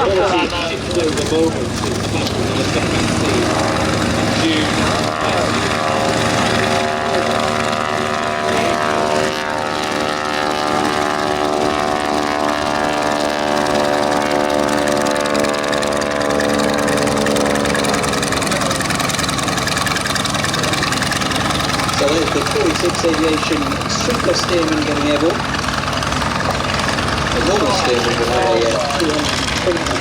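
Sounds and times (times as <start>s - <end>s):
propeller aircraft engine drone: 0.0s - 30.0s.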